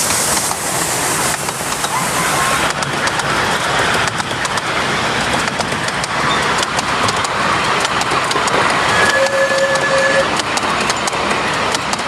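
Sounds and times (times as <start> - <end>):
small train wheels rumbling: 0.0 - 12.0
wheels clicking over rail joints: 0.0 - 12.0.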